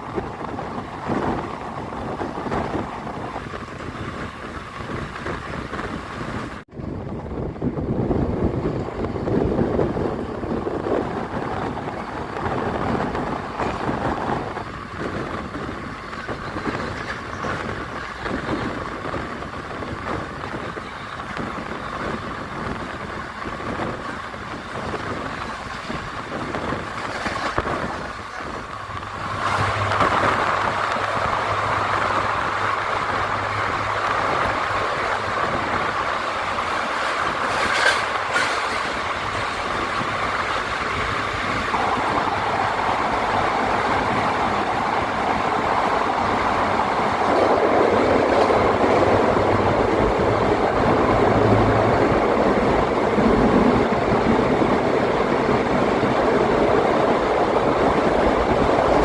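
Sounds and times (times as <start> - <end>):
train rumbling and rattling: 0.0 - 59.0.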